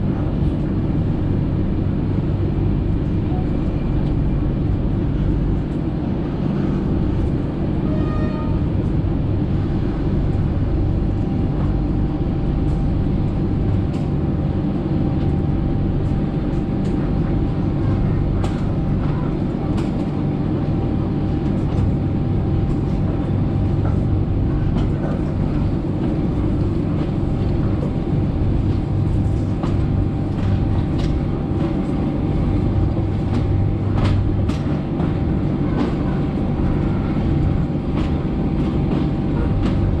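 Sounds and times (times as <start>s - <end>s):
train rumbling along track: 0.0s - 40.0s.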